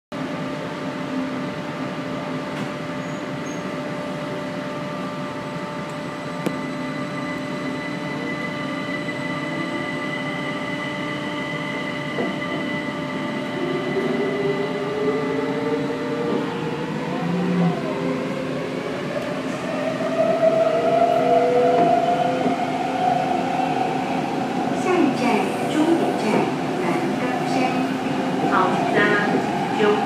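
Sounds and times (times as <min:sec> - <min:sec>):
train running noise: 0:00.2 - 0:30.0.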